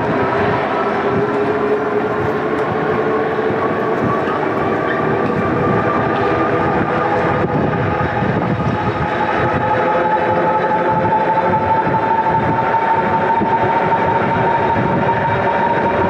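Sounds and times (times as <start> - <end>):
tire road noise: 0.0 - 16.0
wind: 0.0 - 16.0.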